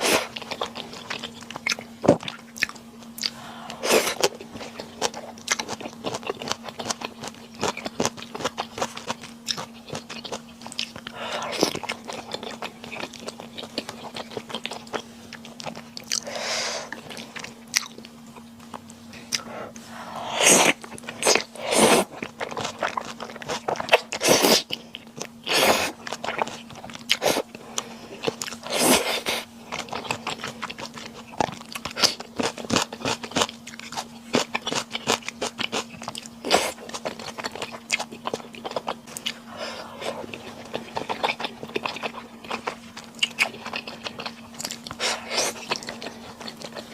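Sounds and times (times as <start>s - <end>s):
faint low hum: 0.0s - 46.9s
person chewing and biting food: 0.0s - 46.9s.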